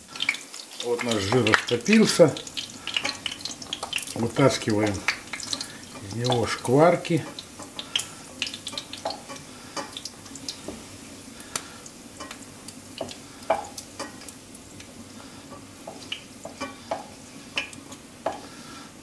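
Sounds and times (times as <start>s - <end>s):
fat sizzling in a frying pan: 0.0s - 19.0s.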